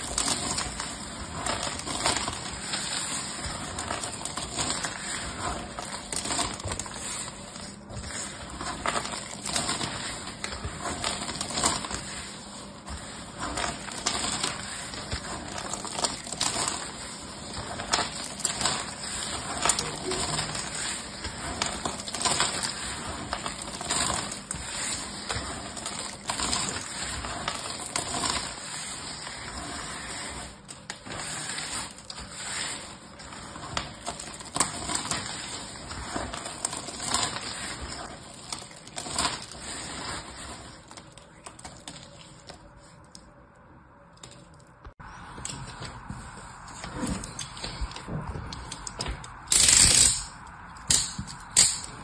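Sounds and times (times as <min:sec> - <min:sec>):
soap flakes crunching: 0:00.0 - 0:42.3.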